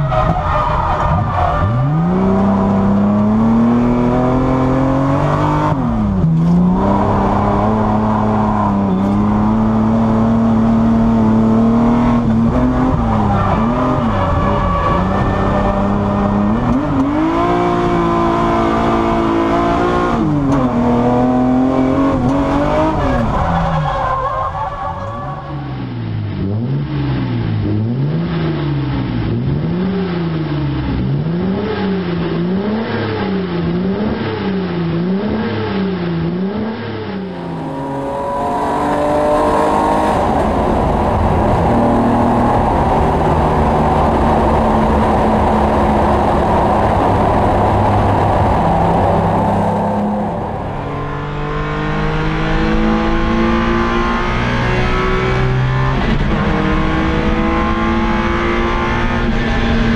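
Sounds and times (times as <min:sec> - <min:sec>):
car engine accelerating: 0:00.0 - 0:59.9
car engine revving: 0:00.0 - 0:59.9.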